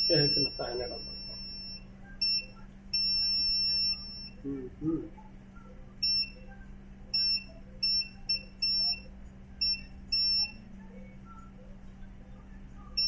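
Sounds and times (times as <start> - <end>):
multimeter continuity beeps: 0.0 - 4.5, 5.2 - 11.9, 12.5 - 13.0.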